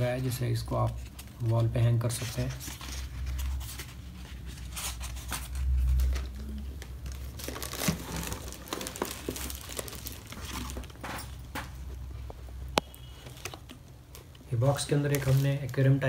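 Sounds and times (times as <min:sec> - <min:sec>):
paper and plastic crinkling: 0:00.0 - 0:16.0.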